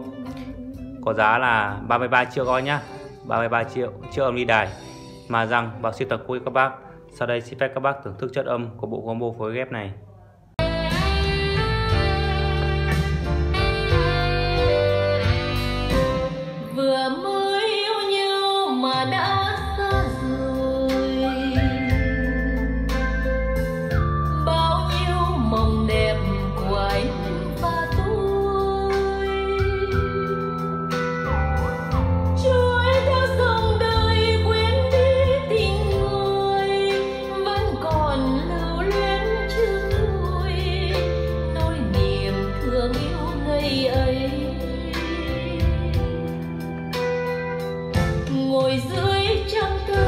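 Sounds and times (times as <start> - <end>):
band backing with bass line: 0.0 - 7.1, 10.6 - 17.5, 18.4 - 50.0
music with singing voice: 0.0 - 9.8, 10.5 - 50.0.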